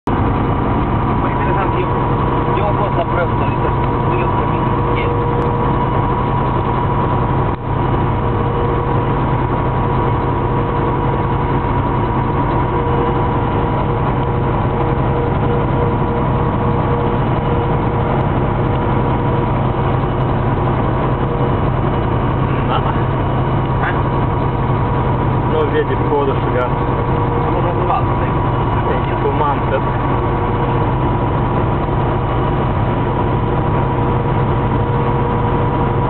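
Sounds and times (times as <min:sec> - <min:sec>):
large vehicle cruising: 0:00.0 - 0:36.0.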